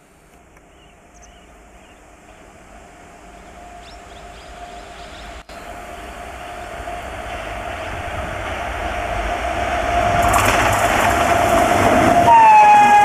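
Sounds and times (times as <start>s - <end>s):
electric locomotive whine: 0.0s - 13.0s
low train rumble: 0.0s - 13.0s.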